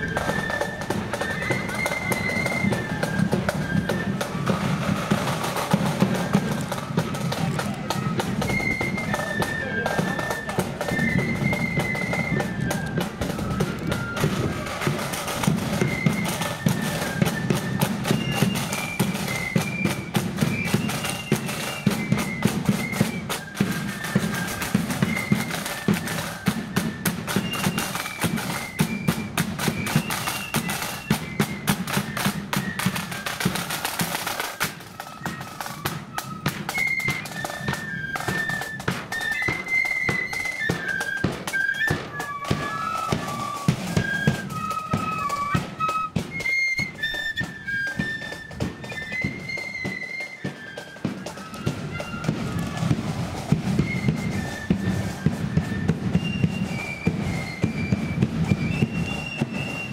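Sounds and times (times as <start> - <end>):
flute melody: 0.0 - 59.9
snare and bass drums: 0.0 - 59.9.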